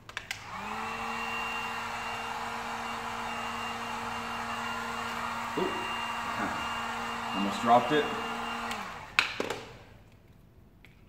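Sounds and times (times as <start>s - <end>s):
heat gun fan blowing: 0.1s - 9.4s.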